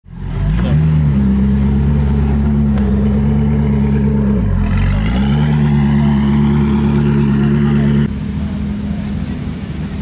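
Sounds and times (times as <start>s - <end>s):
car engine idling: 0.1s - 10.0s.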